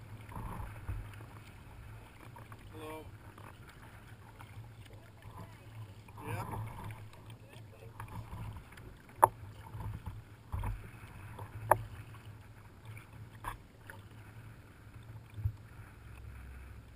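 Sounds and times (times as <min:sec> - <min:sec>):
paddles splashing water: 0:00.0 - 0:16.9.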